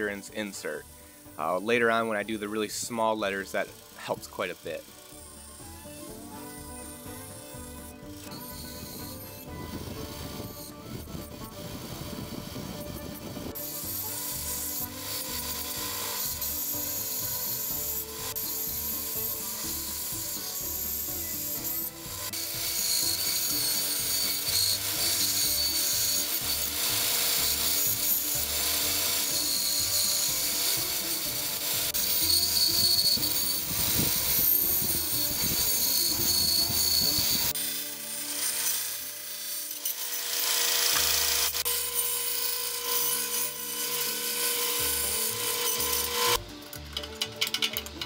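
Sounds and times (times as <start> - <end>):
bandsaw cutting plywood: 0.0 - 48.0.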